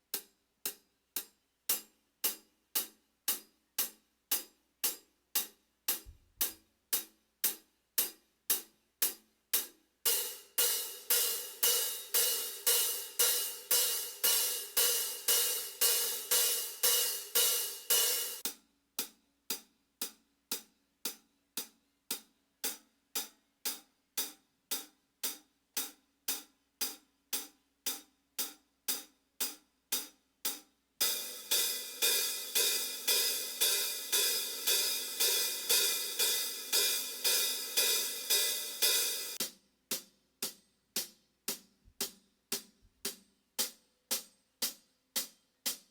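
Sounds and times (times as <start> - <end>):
hi-hat cymbal hits: 0.0 - 45.9.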